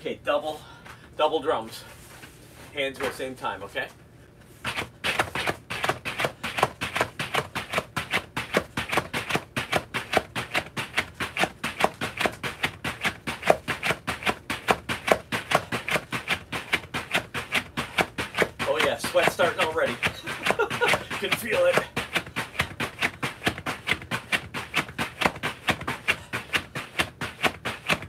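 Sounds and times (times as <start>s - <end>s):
battle ropes slapping floor: 4.6s - 28.0s.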